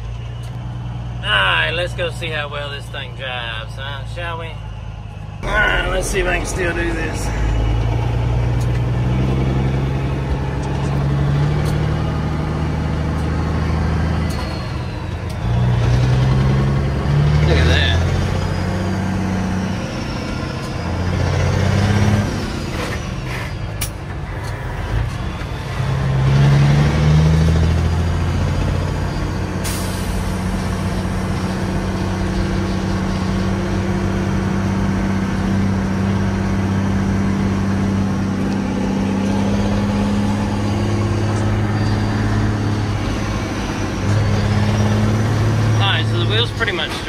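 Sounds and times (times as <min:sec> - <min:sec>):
truck diesel engine driving: 0:00.0 - 0:47.0.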